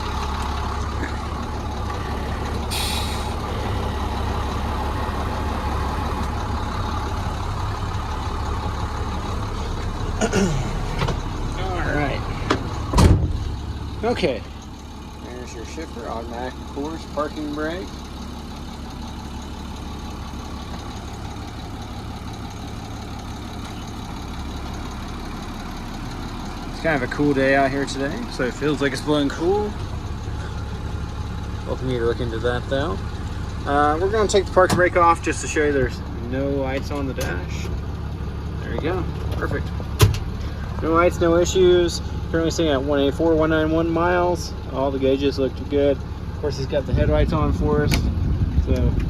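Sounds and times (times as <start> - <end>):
cab fan blowing: 0.0 - 49.0
diesel engine idling: 0.0 - 49.0.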